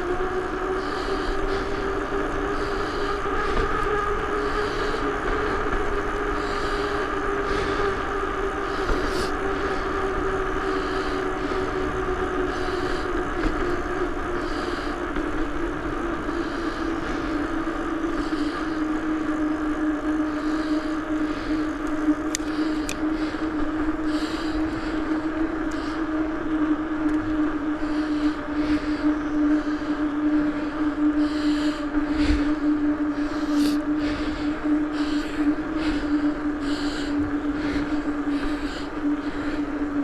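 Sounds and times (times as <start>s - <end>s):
bicycle hum: 0.0s - 40.0s
rushing wind and road noise: 0.0s - 40.0s.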